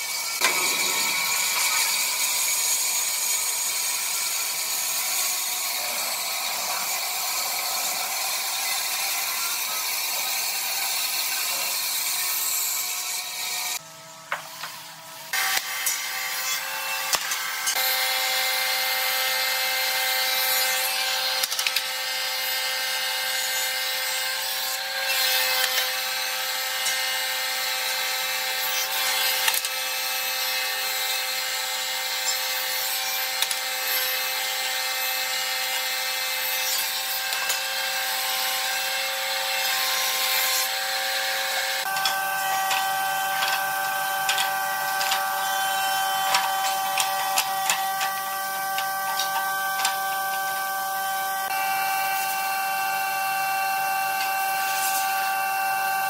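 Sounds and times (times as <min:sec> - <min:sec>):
thickness planer whine: 0:00.0 - 0:56.0.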